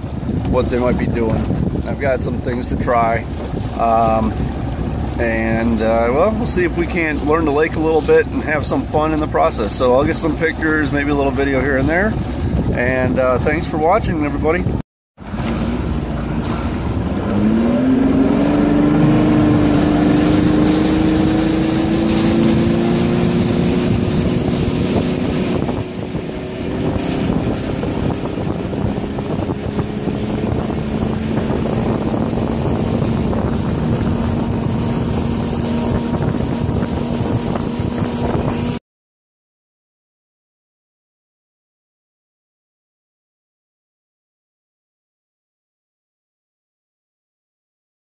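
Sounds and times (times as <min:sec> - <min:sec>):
outboard motor running: 0:00.0 - 0:38.8
water rushing past hull: 0:00.0 - 0:38.8
wind buffeting microphone: 0:00.0 - 0:38.8.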